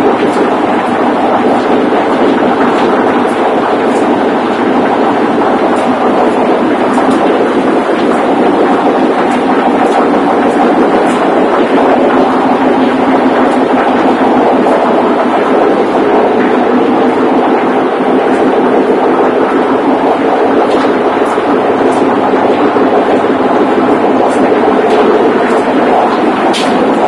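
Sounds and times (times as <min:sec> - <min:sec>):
engine room machinery running: 0:00.0 - 0:27.0.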